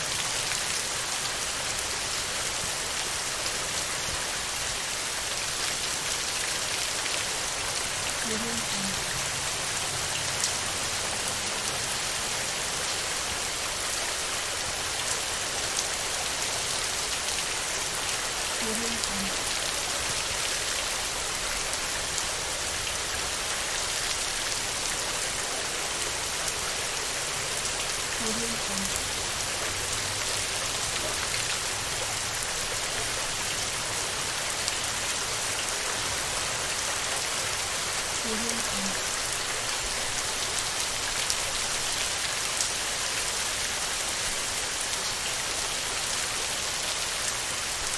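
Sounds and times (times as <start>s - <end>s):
heavy rain on a metal roof: 0.0s - 47.9s.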